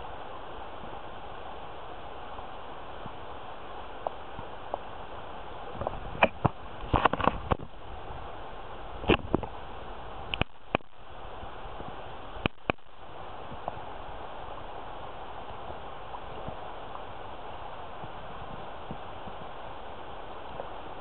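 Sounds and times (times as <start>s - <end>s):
river current rushing: 0.0s - 21.0s.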